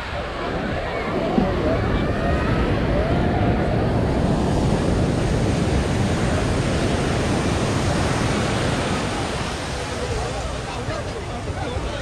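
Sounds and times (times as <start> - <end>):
ocean surf breaking: 0.0 - 12.0
wind on microphone: 0.0 - 12.0.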